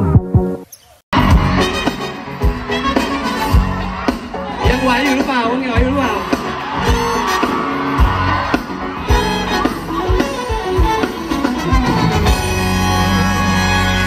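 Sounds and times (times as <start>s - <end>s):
live band music: 0.0s - 14.0s
guitar: 1.2s - 14.0s.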